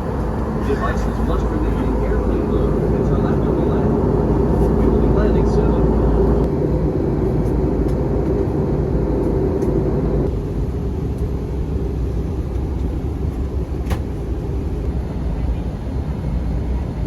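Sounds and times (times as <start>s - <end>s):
airliner cabin air and engine noise: 0.0s - 17.0s
hum: 0.0s - 17.0s.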